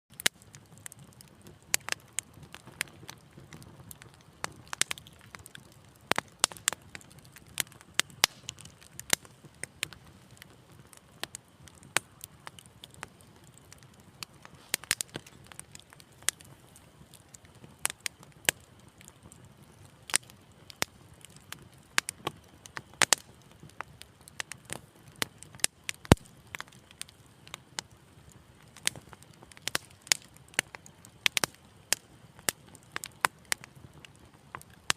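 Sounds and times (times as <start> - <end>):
low rumble of flames: 0.1 - 34.9
wood fire crackling: 0.1 - 34.9.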